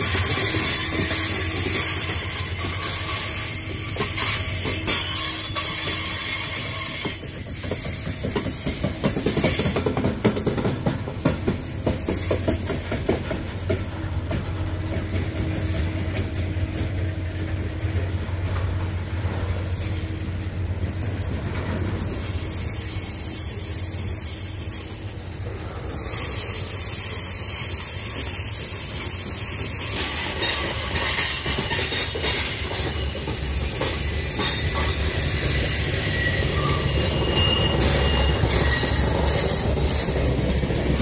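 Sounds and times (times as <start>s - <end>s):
train wheels rumbling on rails: 0.0s - 41.0s
wheels clicking over rail joints: 0.0s - 41.0s.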